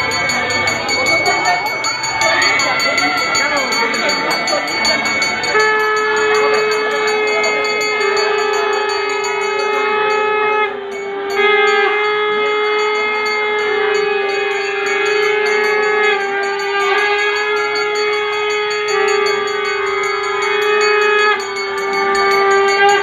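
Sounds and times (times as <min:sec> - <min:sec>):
conch shells blown: 0:00.0 - 0:23.0.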